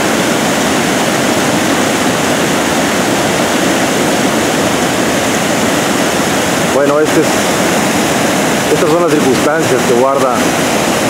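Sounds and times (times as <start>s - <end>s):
floodwater rushing down spillway: 0.0s - 11.0s.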